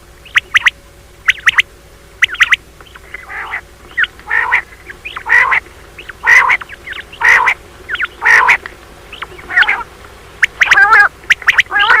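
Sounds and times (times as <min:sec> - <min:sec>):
rapid chattering bird notes: 0:00.0 - 0:12.0
quail calling: 0:00.2 - 0:12.0.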